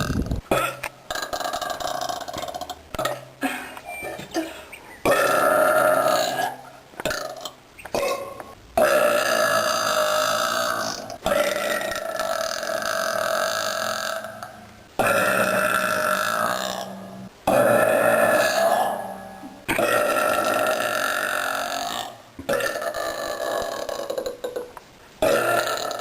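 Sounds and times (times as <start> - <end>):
woman belching: 0.0 - 3.3, 4.2 - 26.0.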